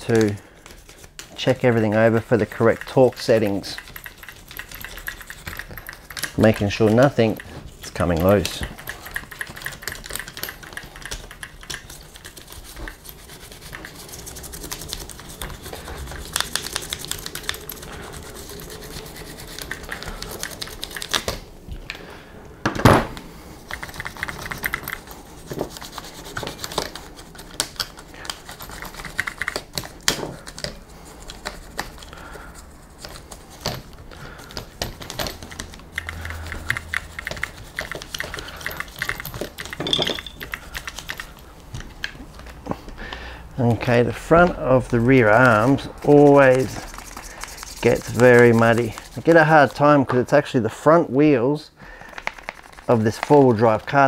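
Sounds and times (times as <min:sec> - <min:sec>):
stiff brush scrubbing: 0:00.0 - 0:21.5, 0:23.4 - 0:39.8, 0:43.6 - 0:50.4, 0:52.3 - 0:54.0.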